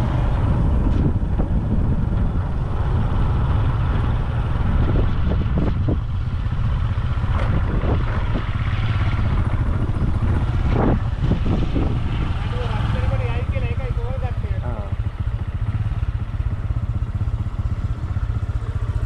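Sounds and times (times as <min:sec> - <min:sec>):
vehicle moving: 0:00.0 - 0:19.0
wind rumble on microphone: 0:00.0 - 0:19.0.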